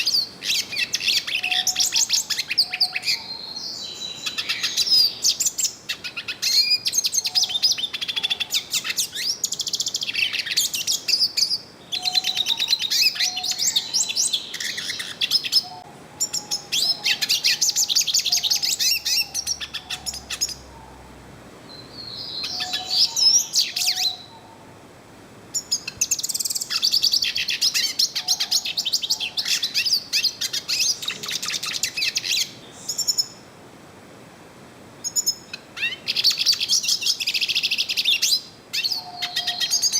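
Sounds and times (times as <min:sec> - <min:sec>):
bird twittering and trilling: 0:00.0 - 0:21.1, 0:21.7 - 0:24.6, 0:25.5 - 0:33.4, 0:35.0 - 0:39.9.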